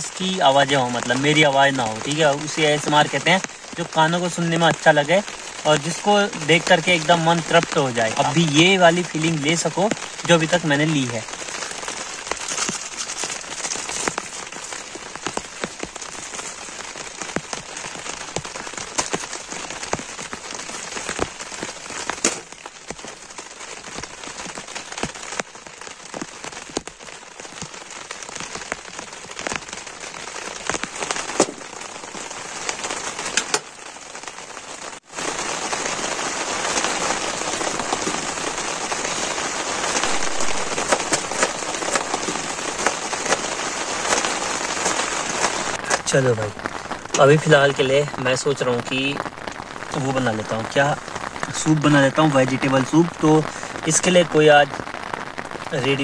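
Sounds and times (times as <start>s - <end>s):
rain pattering on a tent: 0.0s - 56.0s.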